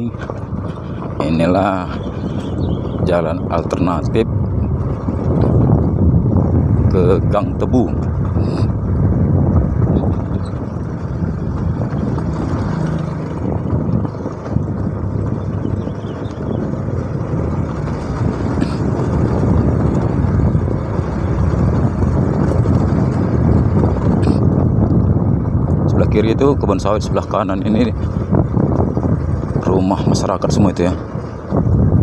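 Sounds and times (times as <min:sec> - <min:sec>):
motorcycle engine running: 0:00.0 - 0:32.0
road and wind rumble: 0:00.0 - 0:32.0.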